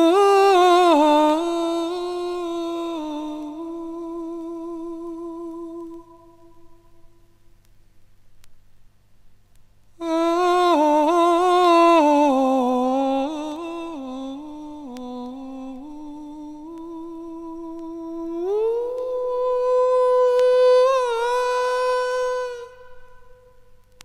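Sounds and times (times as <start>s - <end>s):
person humming a melody: 0.0s - 7.0s, 10.0s - 23.6s.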